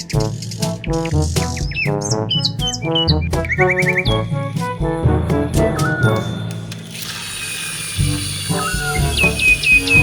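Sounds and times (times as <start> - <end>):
music with bass beat: 0.0 - 6.9, 8.0 - 10.0.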